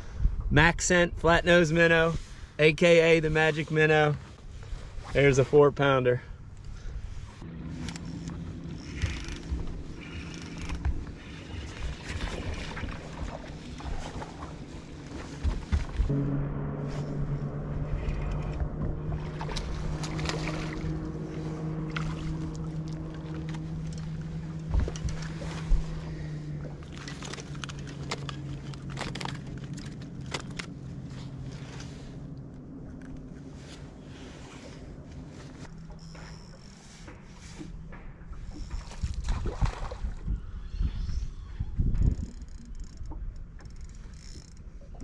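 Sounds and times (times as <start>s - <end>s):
water: 0.0s - 45.0s
wind: 0.0s - 45.0s
steady low hum: 3.3s - 45.0s.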